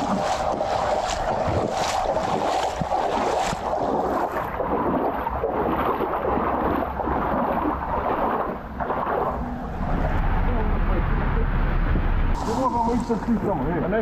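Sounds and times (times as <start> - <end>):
rain falling on water: 0.0 - 13.8.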